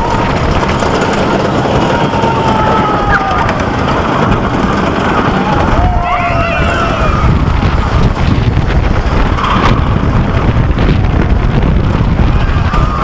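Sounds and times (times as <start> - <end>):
roller coaster rumbling on track: 0.0 - 13.0
wind on microphone: 0.0 - 13.0.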